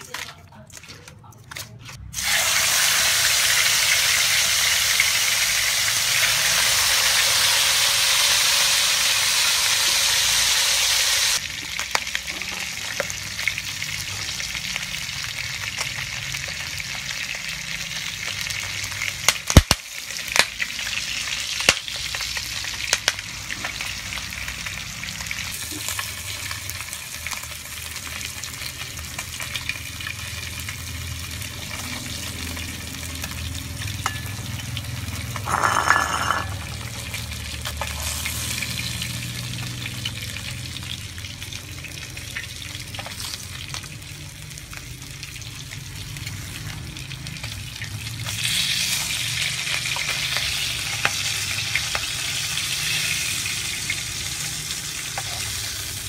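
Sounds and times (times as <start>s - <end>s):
fish sizzling in hot oil: 2.1s - 56.0s.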